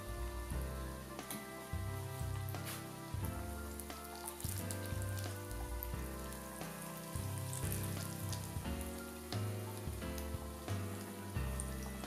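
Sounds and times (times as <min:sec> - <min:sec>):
background music with bass: 0:00.0 - 0:12.0
deep-frying oil crackling: 0:00.0 - 0:12.0.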